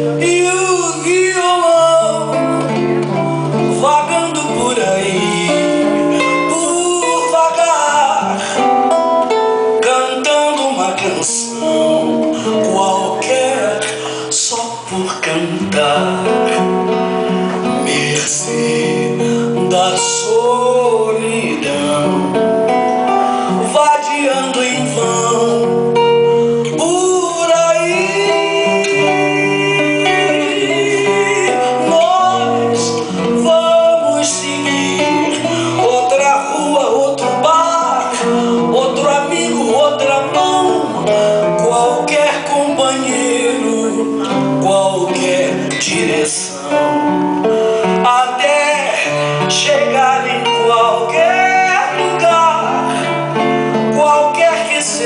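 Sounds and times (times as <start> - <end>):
nylon-string acoustic guitar: 0.0 - 55.0
person singing: 0.0 - 55.0.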